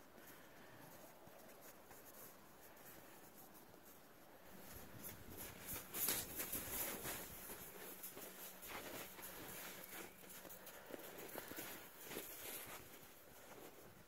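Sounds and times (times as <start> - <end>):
hooves crunching through snow: 0.1 - 14.0.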